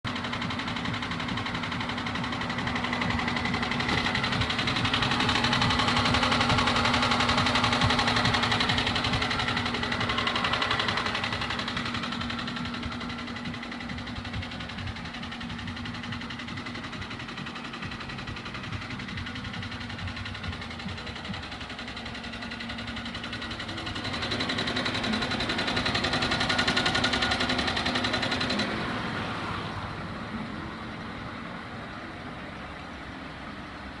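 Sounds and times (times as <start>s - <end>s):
car engine knocking: 0.0s - 34.0s.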